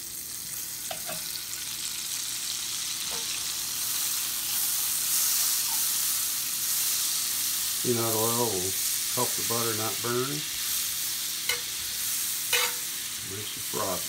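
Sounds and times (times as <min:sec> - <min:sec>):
butter sizzling in a skillet: 0:00.0 - 0:14.0.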